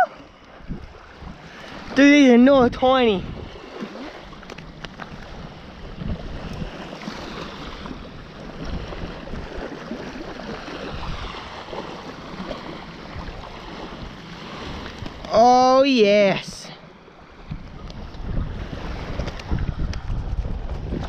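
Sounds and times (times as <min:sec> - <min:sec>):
wind rumbling on microphone: 0:00.0 - 0:15.4, 0:17.2 - 0:21.0
small waves washing on beach: 0:00.0 - 0:21.0.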